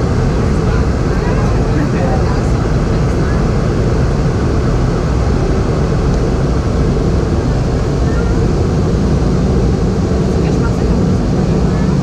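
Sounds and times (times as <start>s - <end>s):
airflow over fuselage: 0.0s - 12.0s
jet engines rumbling: 0.0s - 12.0s.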